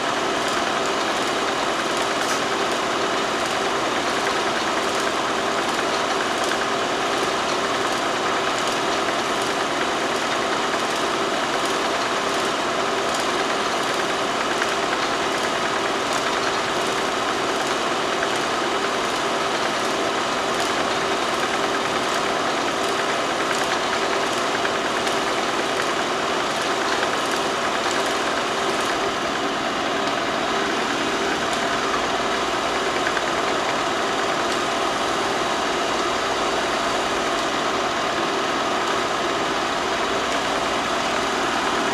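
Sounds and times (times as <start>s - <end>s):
film projector whirring: 0.0s - 41.9s.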